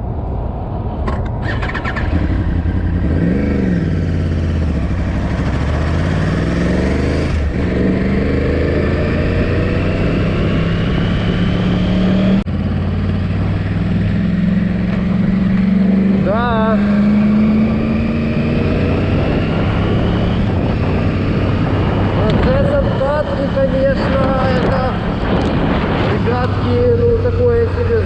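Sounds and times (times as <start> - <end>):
motorcycle engine accelerating: 1.1 - 28.0.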